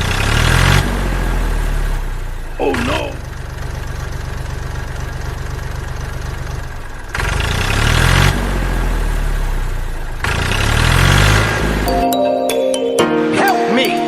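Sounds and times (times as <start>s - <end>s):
tractor engine idling and revving: 0.0s - 12.0s.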